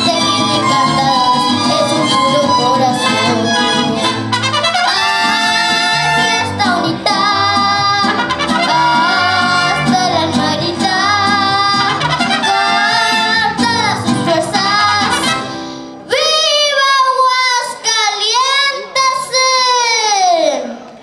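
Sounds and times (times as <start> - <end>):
girl singing: 0.0 - 4.2, 4.8 - 15.4, 16.1 - 20.7
mariachi band playing: 0.0 - 19.6.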